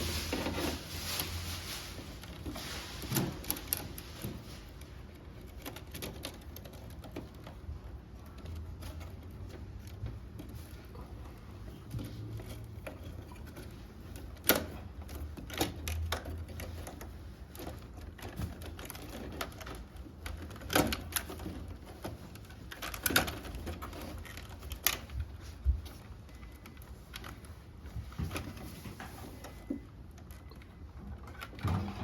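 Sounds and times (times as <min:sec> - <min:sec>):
hard parts clicking and knocking: 0:02.2 - 0:32.0.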